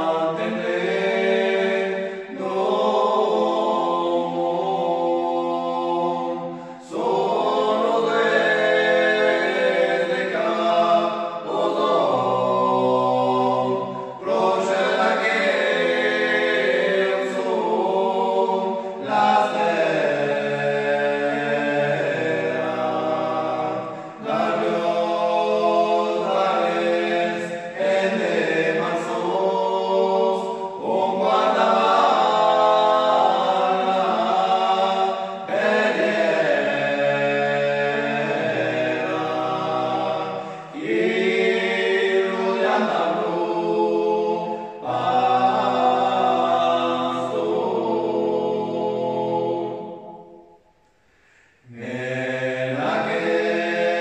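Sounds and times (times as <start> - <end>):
male vocal quartet singing: 0.0 - 50.5, 51.2 - 54.0.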